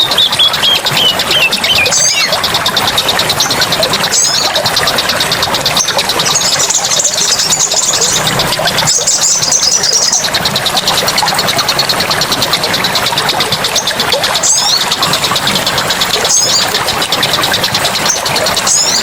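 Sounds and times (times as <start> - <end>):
high-pitched pulsing trill: 0.0 - 19.0.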